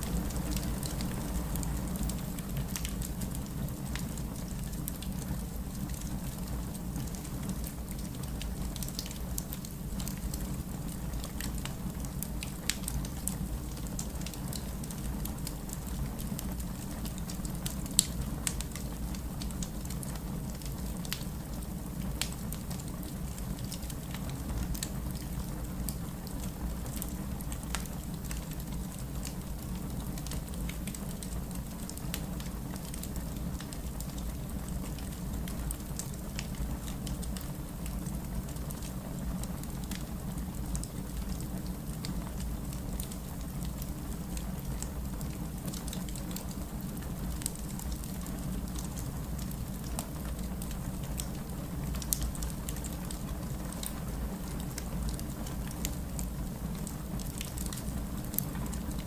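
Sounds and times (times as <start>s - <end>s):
fire hissing and rumbling: 0.0s - 59.0s
fire popping and snapping: 0.0s - 59.0s.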